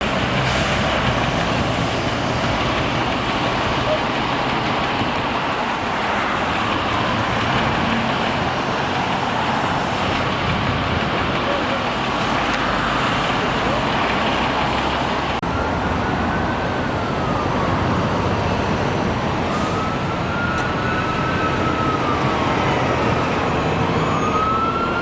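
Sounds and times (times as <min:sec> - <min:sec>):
street traffic engines: 0:00.0 - 0:25.0.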